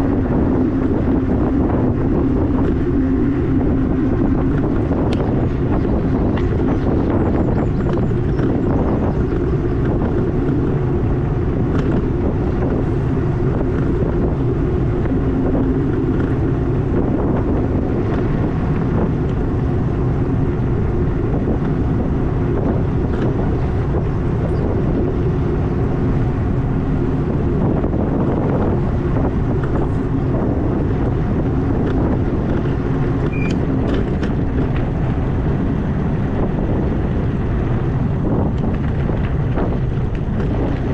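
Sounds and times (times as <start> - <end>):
bike running noise: 0.0 - 40.9
wind buffeting microphone: 0.0 - 40.9.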